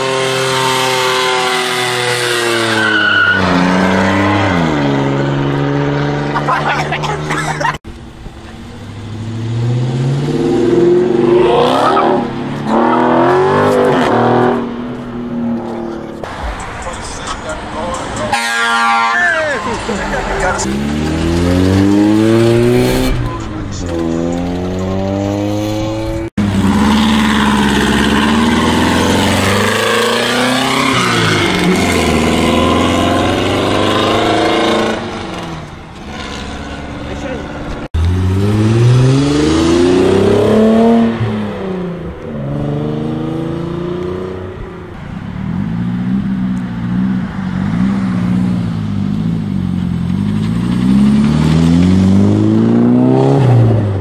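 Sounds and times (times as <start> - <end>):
car engine revving accelerating: 0.0 - 7.8, 8.8 - 54.0.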